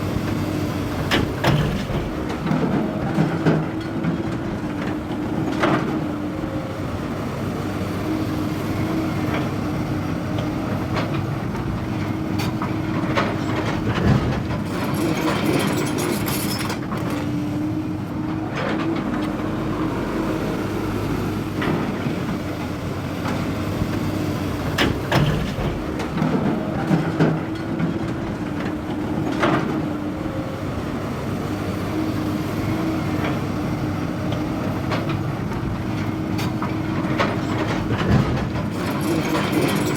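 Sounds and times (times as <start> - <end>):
excavator engine and hydraulics humming: 0.0 - 39.9.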